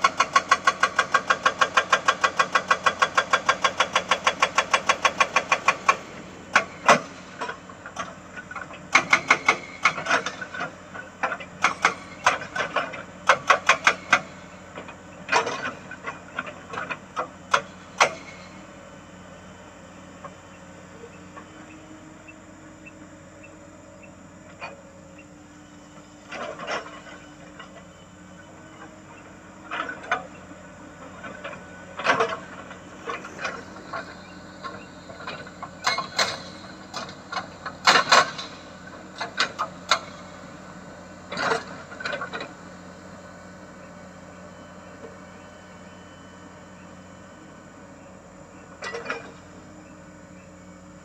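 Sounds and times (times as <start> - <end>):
excavator engine running: 0.0 - 51.0.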